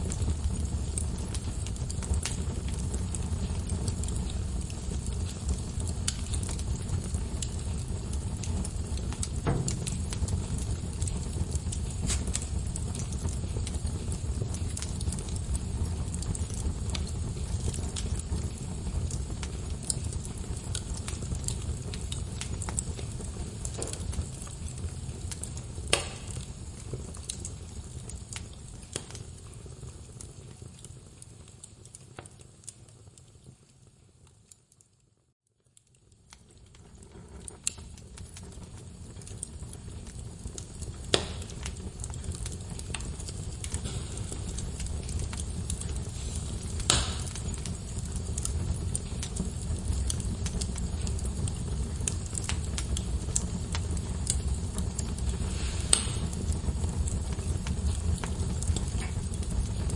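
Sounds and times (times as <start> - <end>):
log fire rumbling: 0.0 - 34.8, 35.5 - 59.9
fire crackles and pops: 0.0 - 59.9.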